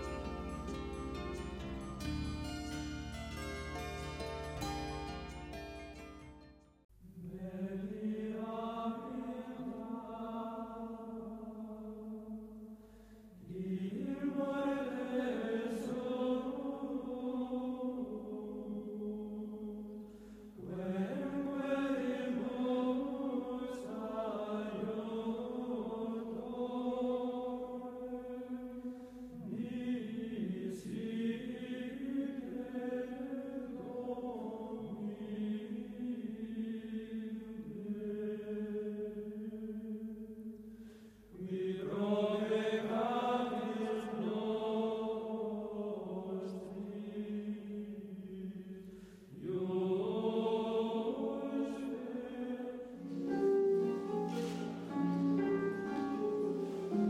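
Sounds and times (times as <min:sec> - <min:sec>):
slow vocal chant: 0:07.0 - 0:57.0.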